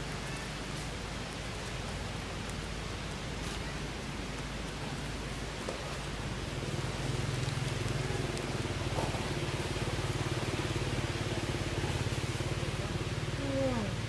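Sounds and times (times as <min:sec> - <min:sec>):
constant hiss: 0:00.0 - 0:14.0
engine humming: 0:00.0 - 0:14.0.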